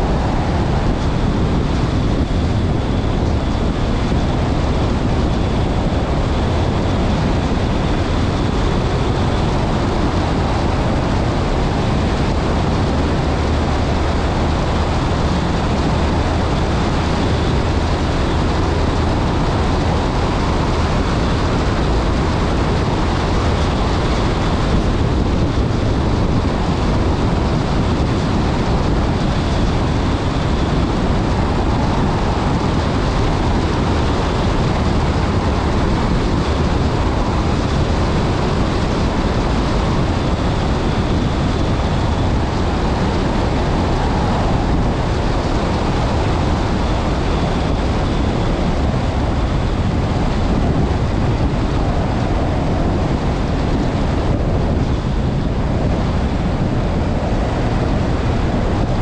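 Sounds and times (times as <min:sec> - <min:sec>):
rally car engine: 0:00.0 - 0:59.0
wind noise on microphone: 0:00.0 - 0:59.0.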